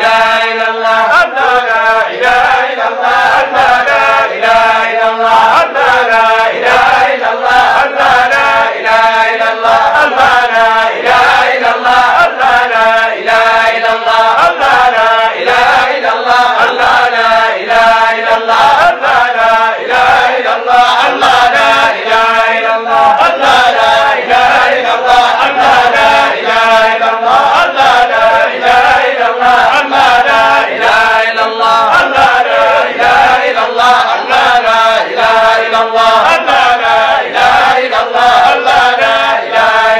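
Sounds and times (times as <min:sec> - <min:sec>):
voices chanting: 0:00.0 - 0:39.9.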